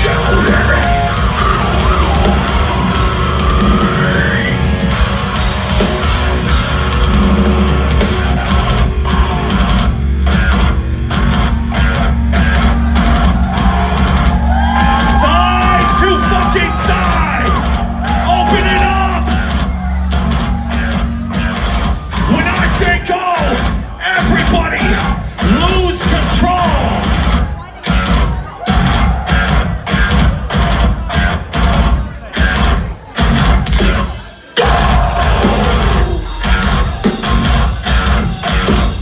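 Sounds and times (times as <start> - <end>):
heavy metal band playing live: 0.0 - 39.0.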